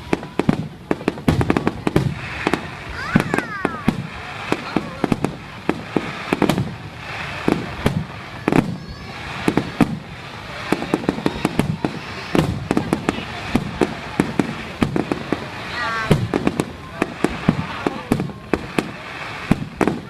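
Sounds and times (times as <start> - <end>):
firework cracks and crackles: 0.0 - 20.0
firework shells booming: 0.0 - 20.0.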